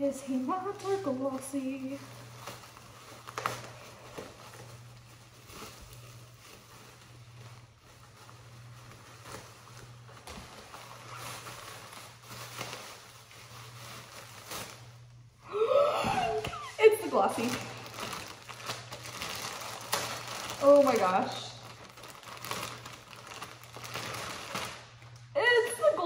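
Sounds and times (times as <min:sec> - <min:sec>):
bubble wrap and plastic crinkling: 0:00.0 - 0:26.0.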